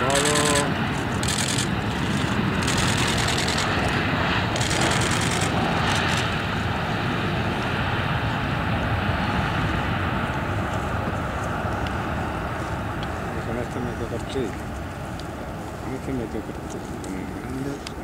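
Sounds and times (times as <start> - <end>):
jet airliner engines rumbling: 0.0 - 18.0
jet engine hiss: 0.0 - 18.0.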